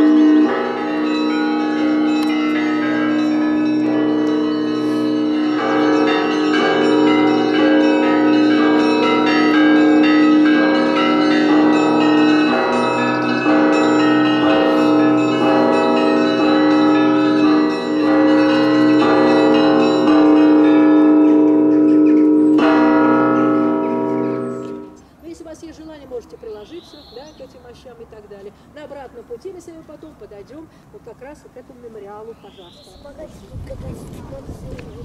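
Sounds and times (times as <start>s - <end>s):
church bells ringing: 0.0s - 30.2s.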